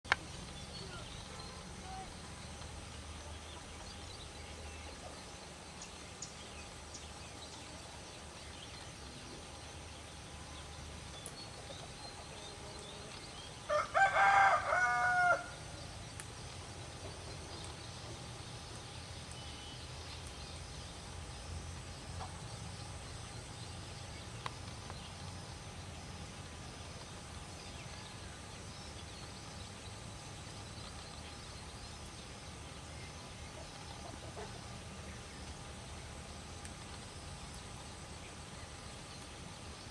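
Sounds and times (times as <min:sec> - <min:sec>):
low background hum: 0:00.1 - 0:39.9.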